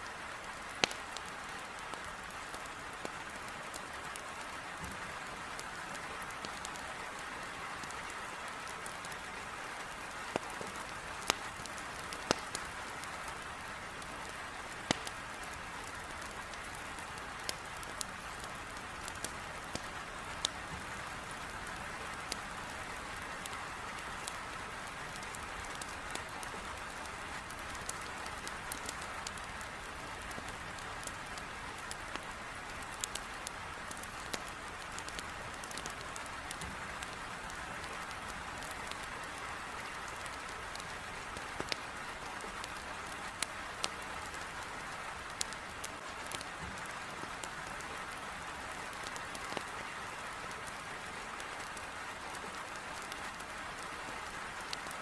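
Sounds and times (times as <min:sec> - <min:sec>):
heavy rain on a window: 0:00.0 - 0:55.0
wood fire crackling: 0:00.1 - 0:55.0.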